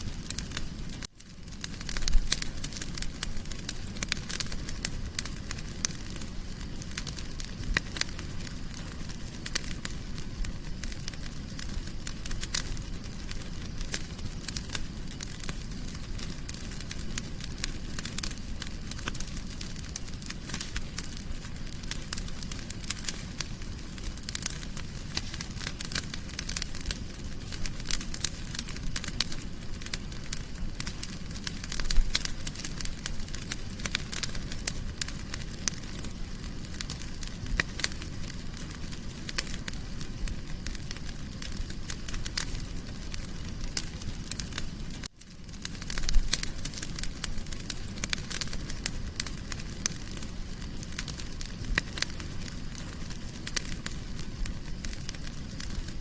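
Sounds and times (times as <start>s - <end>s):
fire crackling: 0.0s - 56.0s.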